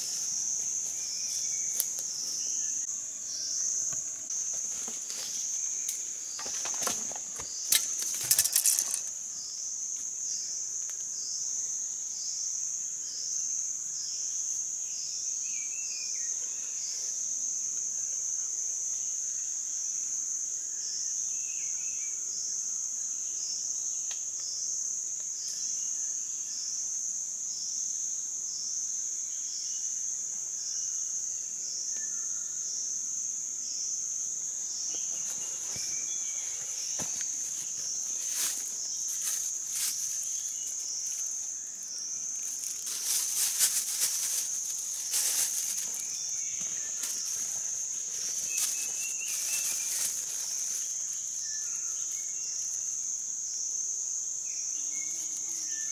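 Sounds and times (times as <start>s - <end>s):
pulsing insect drone: 0.0s - 55.9s.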